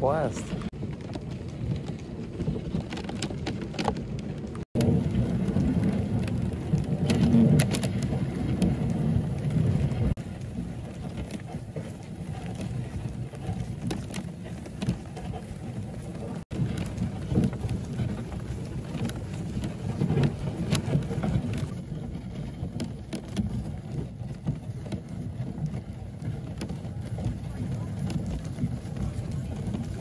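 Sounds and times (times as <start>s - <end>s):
sled runners crunching on snow: 0.0s - 30.0s
wind rumble on microphone: 0.0s - 30.0s.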